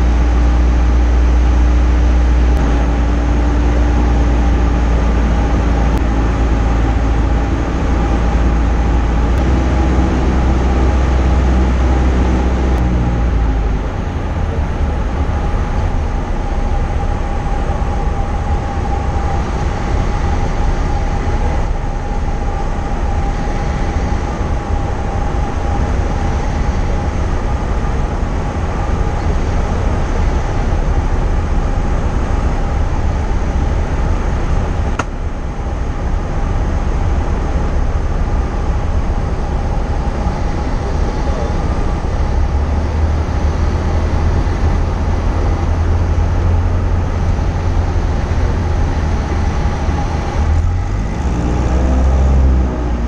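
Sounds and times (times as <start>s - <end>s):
airflow rush: 0.0s - 53.0s
propeller aircraft engine drone: 0.0s - 53.0s.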